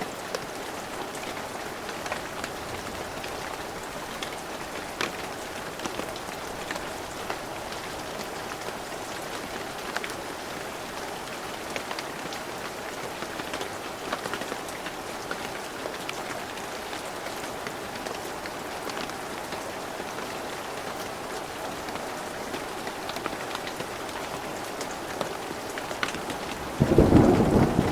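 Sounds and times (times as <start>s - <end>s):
heavy rain pattering on surfaces: 0.0s - 27.9s.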